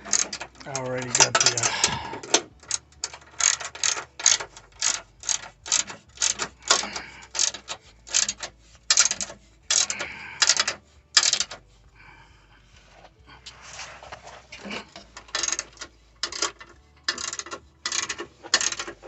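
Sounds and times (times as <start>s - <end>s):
ratchet wrench clicking: 0.0s - 11.6s, 14.7s - 19.0s.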